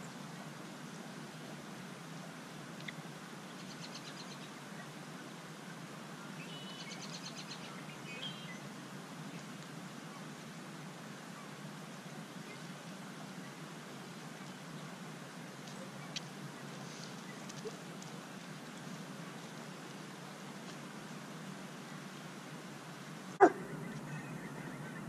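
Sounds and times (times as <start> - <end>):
steady outdoor hiss: 0.0 - 25.0
songbird chirping: 2.8 - 5.4, 6.2 - 25.0.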